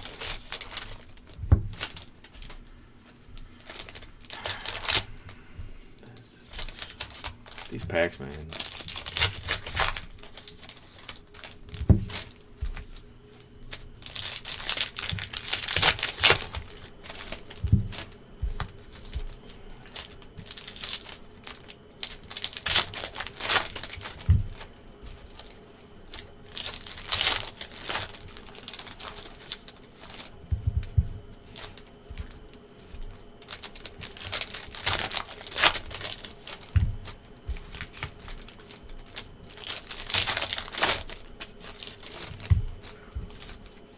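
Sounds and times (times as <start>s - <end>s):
card pack wrappers crinkling and tearing: 0.0s - 43.9s.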